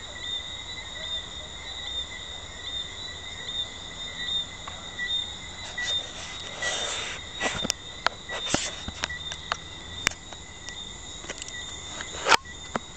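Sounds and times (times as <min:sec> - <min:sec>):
tree frogs trilling: 0:00.0 - 0:12.9.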